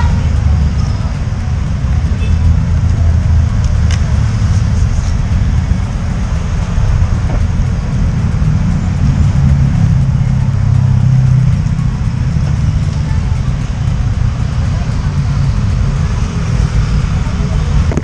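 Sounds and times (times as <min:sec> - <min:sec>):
motorcycle engine and road rumble: 0:00.0 - 0:18.0.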